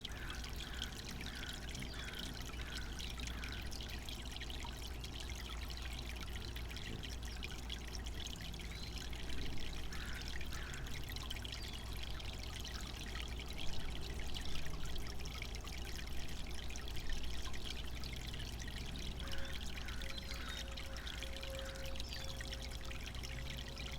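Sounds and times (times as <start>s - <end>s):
fountain water trickling: 0.0s - 23.9s.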